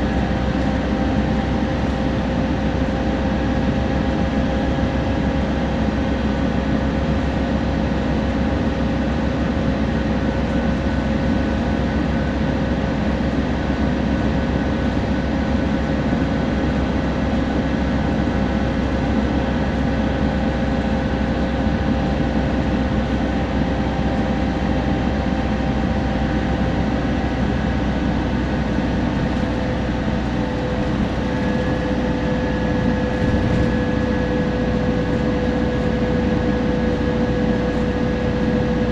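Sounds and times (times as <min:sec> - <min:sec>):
bus diesel engine rumbling: 0:00.0 - 0:38.9
steady whine: 0:00.0 - 0:38.9.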